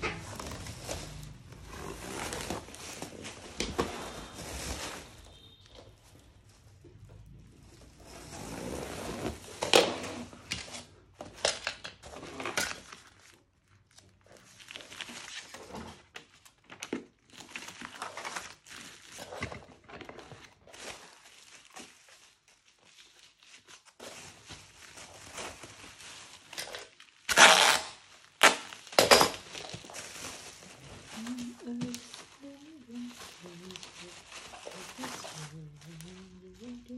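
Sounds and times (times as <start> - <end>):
plastic wrapping crinkling: 0.0 - 36.9.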